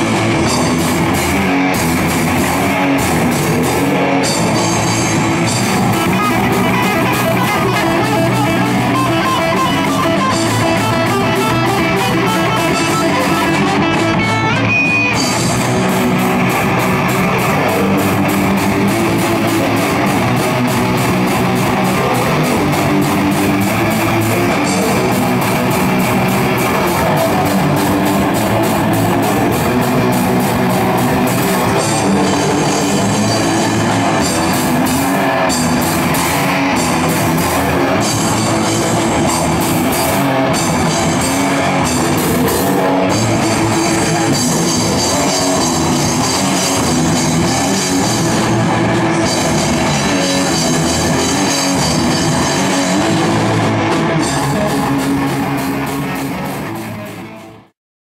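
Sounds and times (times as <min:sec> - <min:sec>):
drum kit: 0:00.0 - 0:57.7
electric guitar: 0:00.0 - 0:57.8.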